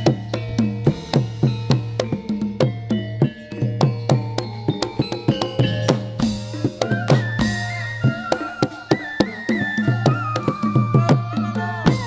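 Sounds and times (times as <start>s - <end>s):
drums struck in quick rhythm: 0.0s - 12.0s
held melody line: 0.0s - 12.0s.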